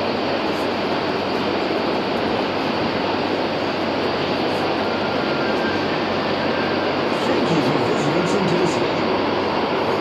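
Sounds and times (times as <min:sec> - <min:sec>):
monorail train rushing: 0:00.0 - 0:10.0.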